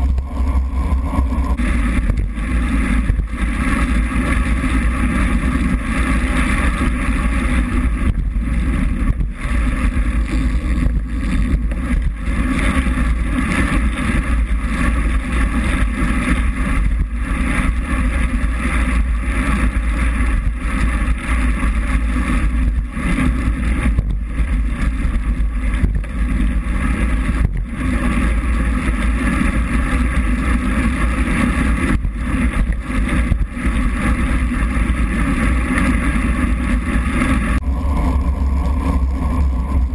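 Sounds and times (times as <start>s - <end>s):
heavy low rumble: 0.0s - 39.9s
wet road noise: 0.0s - 39.9s.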